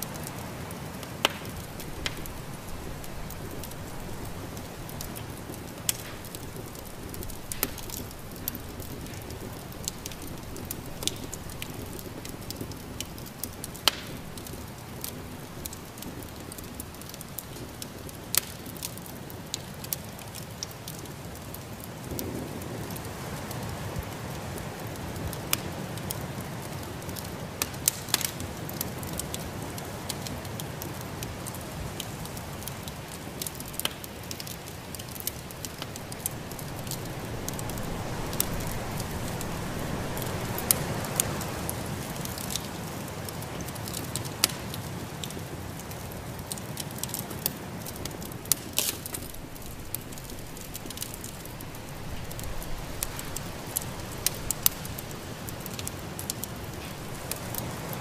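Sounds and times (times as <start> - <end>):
rushing hiss of fire: 0.0 - 58.0
wood fire crackling and popping: 0.0 - 58.0.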